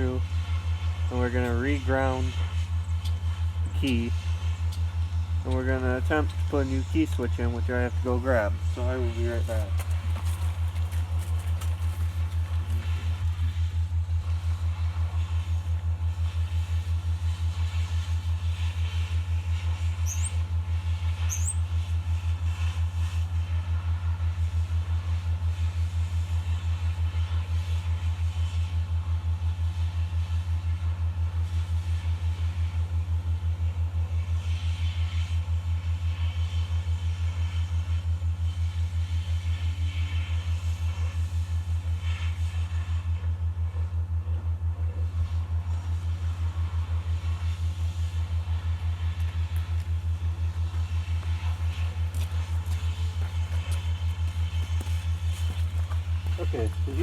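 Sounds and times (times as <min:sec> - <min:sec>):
pulsing machine hum: 0:00.0 - 0:27.6, 0:35.4 - 0:57.0.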